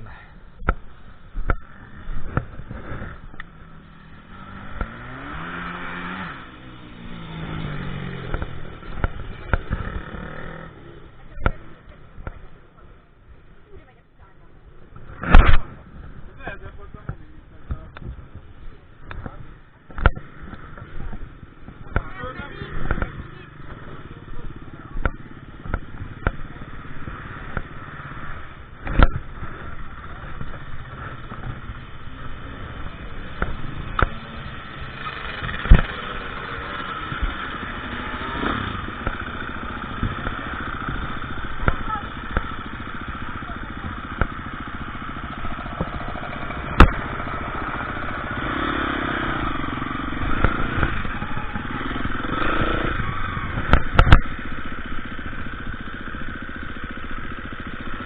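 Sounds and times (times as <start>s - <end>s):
dirt bike engine revving: 0.6s - 12.3s, 19.1s - 58.0s.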